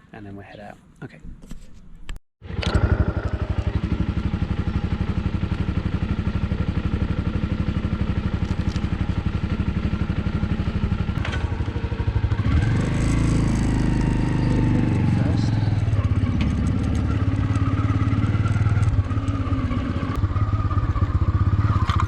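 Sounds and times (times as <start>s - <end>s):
motorcycle engine idling: 2.4s - 22.0s.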